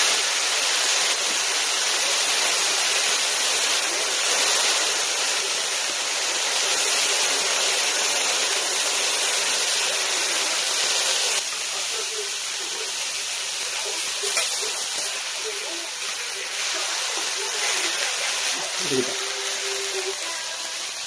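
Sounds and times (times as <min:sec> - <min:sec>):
noodles sizzling on a griddle: 0:00.0 - 0:21.0.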